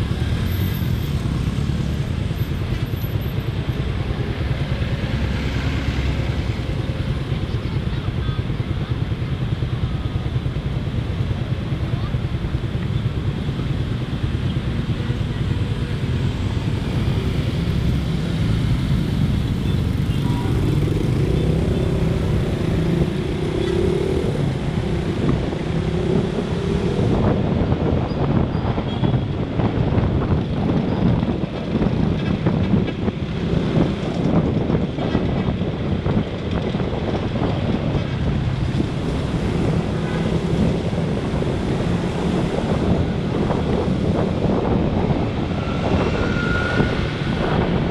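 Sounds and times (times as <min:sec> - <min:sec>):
motorcycle engine hum: 0:00.0 - 0:47.9
passing cars and motorbikes: 0:00.0 - 0:47.9
road noise: 0:00.0 - 0:47.9
wind buffeting microphone: 0:03.4 - 0:47.9.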